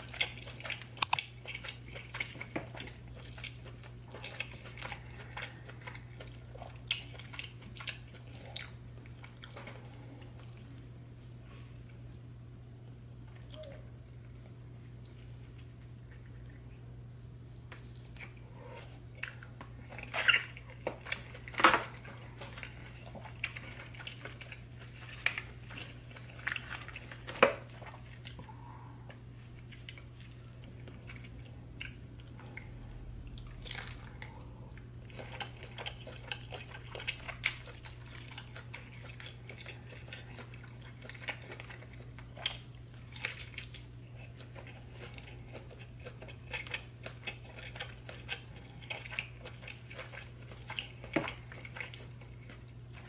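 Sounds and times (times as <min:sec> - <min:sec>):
wet chewing and crunching: 0:00.0 - 0:10.9, 0:17.5 - 0:53.0
steady low hum: 0:00.0 - 0:53.0.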